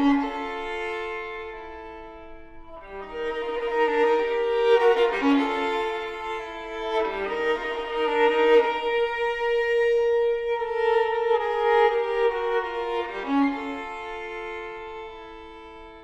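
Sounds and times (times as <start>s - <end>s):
solo violin slow notes: 0.0s - 16.0s.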